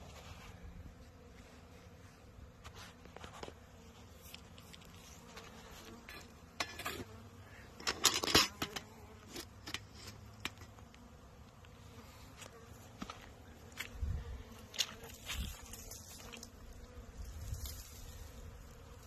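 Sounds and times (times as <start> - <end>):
bees buzzing: 0.1 - 19.0.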